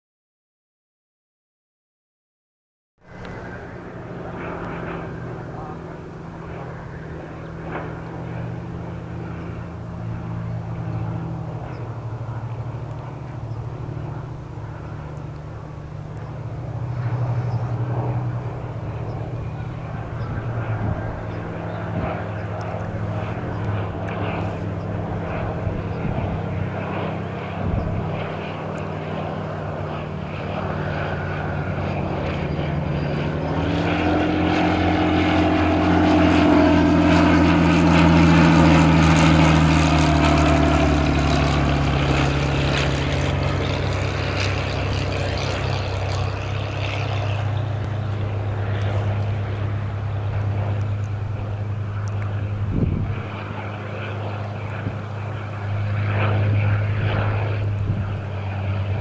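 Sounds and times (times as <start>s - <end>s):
propeller plane engine drone: 3.0s - 59.0s.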